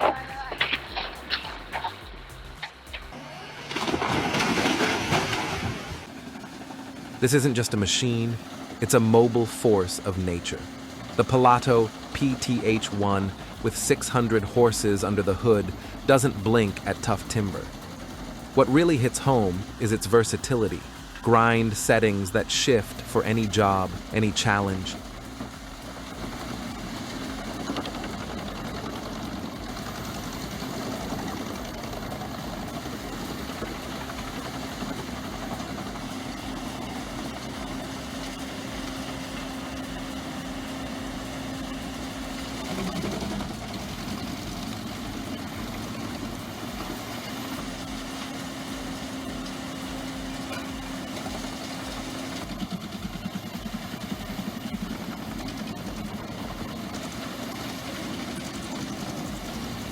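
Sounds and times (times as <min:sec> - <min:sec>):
heavy machine engine humming: 0:00.0 - 0:59.9.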